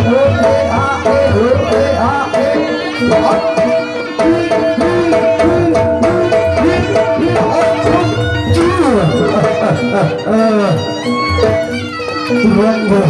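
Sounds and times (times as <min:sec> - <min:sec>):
hand drums with bending pitch: 0:00.0 - 0:12.9.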